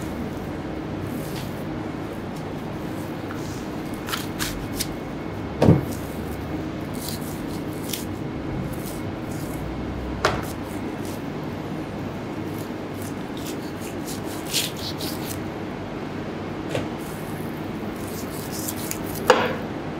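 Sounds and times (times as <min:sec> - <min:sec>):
steady background hum: 0:00.0 - 0:19.9.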